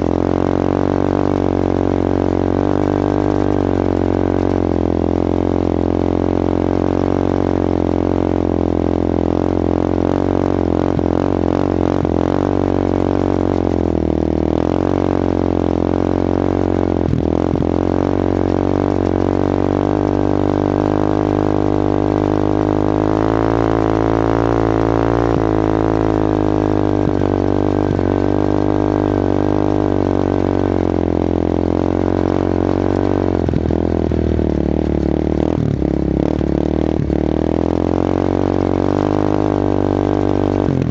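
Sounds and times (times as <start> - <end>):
atv engine running under load: 0.0 - 40.9.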